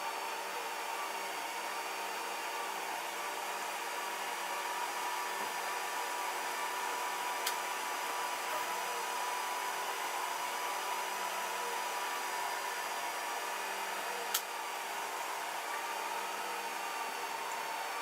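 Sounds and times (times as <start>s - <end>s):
three d printer whirring: 0.0s - 18.0s.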